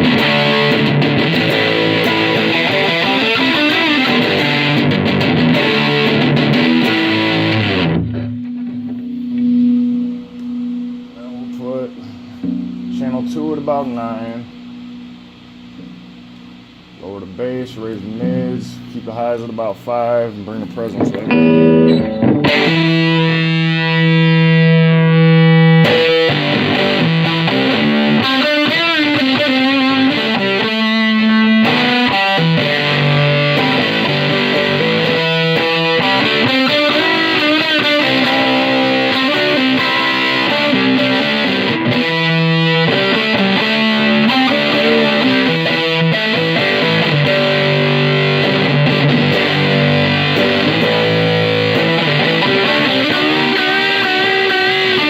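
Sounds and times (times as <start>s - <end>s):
distorted electric guitar: 0.0s - 55.0s.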